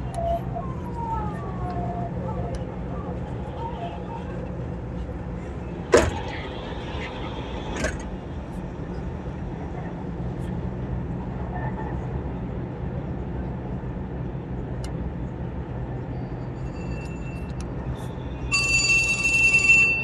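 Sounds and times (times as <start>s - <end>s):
train rumbling inside car: 0.0s - 20.0s.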